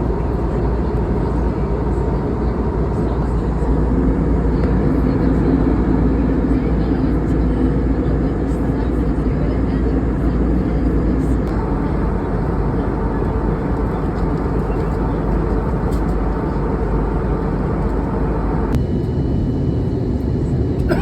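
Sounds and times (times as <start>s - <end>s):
airliner cabin engine rush: 0.0s - 21.0s.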